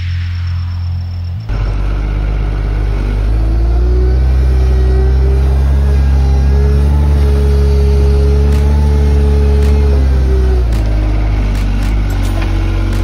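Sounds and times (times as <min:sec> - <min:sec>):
wheel loader diesel engine: 0:00.0 - 0:13.0.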